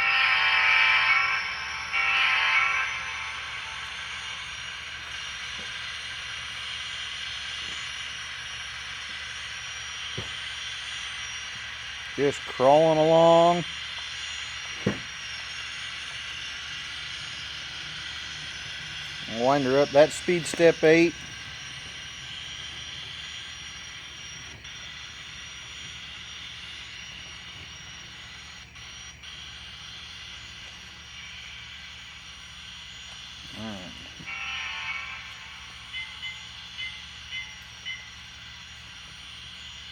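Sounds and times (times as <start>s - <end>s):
gas turbine whine from small speaker: 0.0s - 39.9s.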